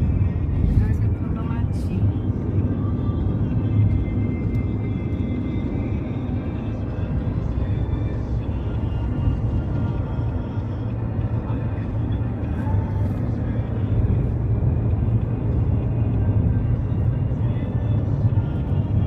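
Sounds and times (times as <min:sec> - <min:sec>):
engine and road noise: 0:00.0 - 0:19.0
faint music: 0:00.0 - 0:19.0.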